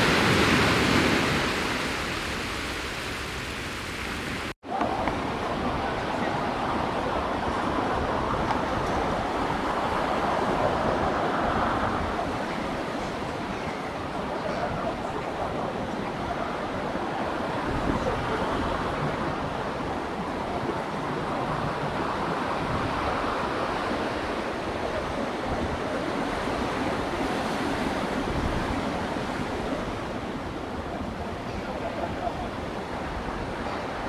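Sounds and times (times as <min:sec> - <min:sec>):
ocean waves washing on beach: 0:00.0 - 0:34.0
wind rumble on microphone: 0:00.0 - 0:34.0.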